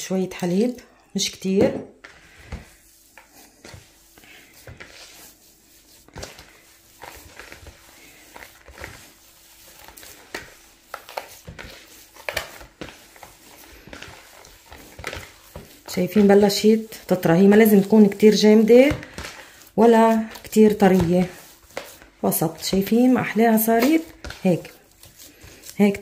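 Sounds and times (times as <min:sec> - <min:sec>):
hand squishing dough: 0:00.0 - 0:26.0.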